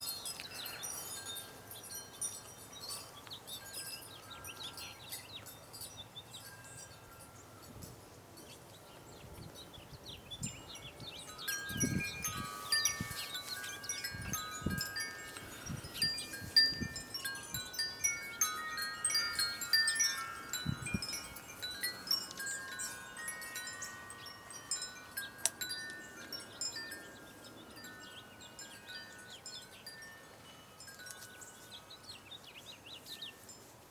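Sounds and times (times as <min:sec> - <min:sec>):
wind chime ringing: 0:00.0 - 0:08.5, 0:10.4 - 0:33.7
small birds chirping: 0:00.0 - 0:33.7.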